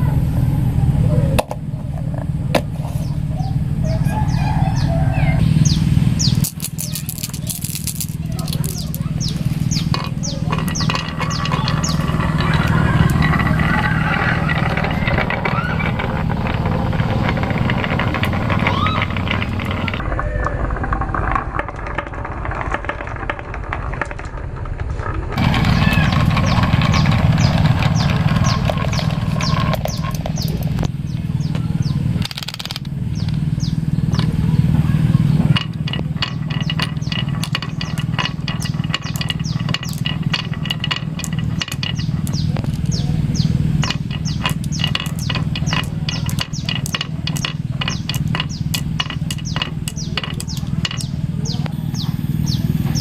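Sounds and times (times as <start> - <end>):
marbles clicking and clacking: 6.2 - 31.3, 32.2 - 33.4, 34.1 - 53.0
marbles rolling on wooden track: 6.2 - 53.0.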